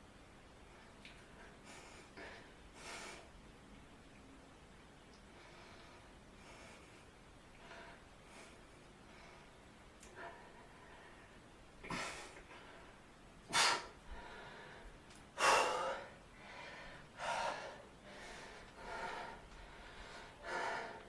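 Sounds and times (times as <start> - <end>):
man breathing heavily: 1.3 - 3.4, 5.3 - 21.0.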